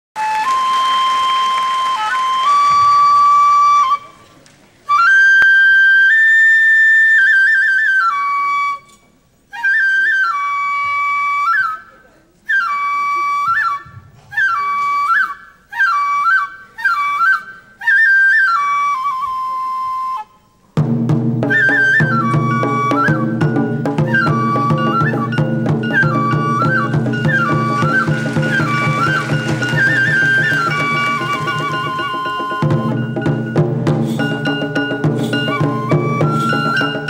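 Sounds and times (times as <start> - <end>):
solo flute melody: 0.2 - 37.0.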